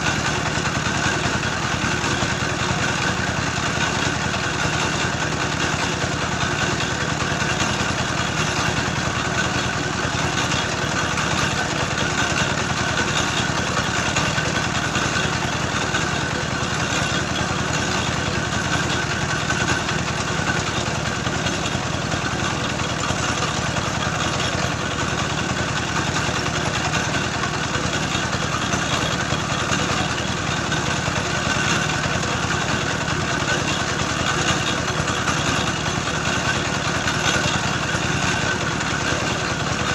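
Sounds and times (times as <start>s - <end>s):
grinding mill engine running: 0.0s - 39.9s.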